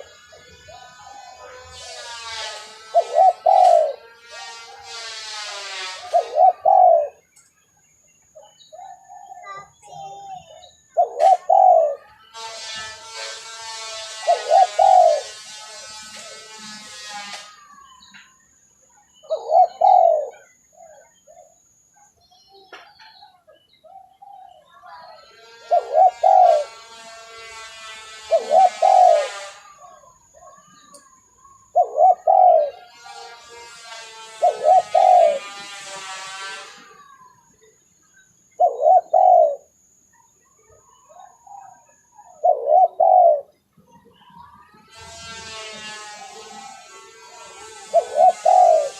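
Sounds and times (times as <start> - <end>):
doves cooing: 0.0 - 7.3, 8.4 - 12.5, 14.0 - 17.9, 19.2 - 21.6, 23.9 - 37.7, 38.5 - 48.9.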